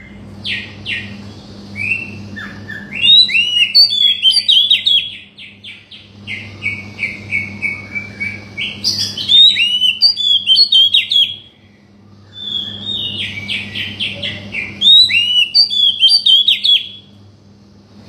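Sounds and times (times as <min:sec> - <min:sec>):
songbird whistling: 0:00.0 - 0:17.1
steady low hum: 0:00.0 - 0:18.0.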